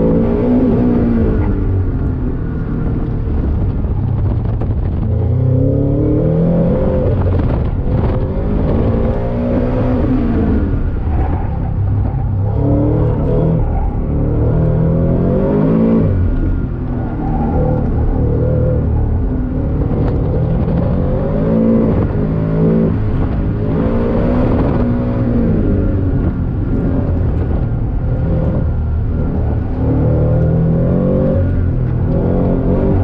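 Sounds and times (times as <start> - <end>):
car engine revving high: 4.9 - 33.0.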